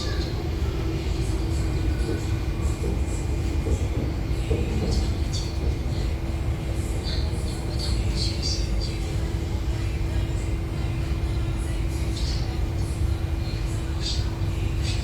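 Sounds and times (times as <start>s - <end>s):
constant hum: 0.0s - 15.0s
train wheels rumbling on rail: 0.0s - 15.0s.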